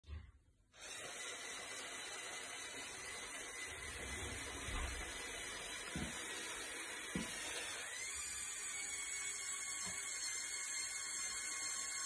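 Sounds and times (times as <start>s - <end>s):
small electric motors whining: 0.8s - 12.0s.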